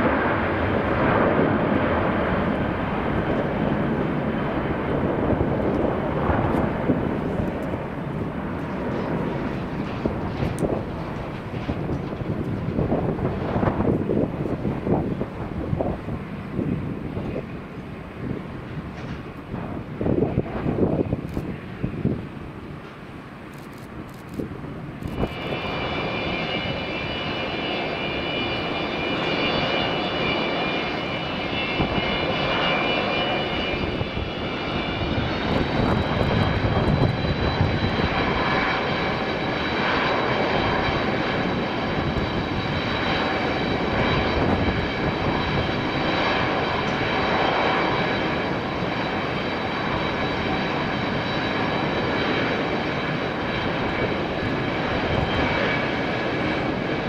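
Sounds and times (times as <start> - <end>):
jet engines rushing and whining: 0.0 - 57.0.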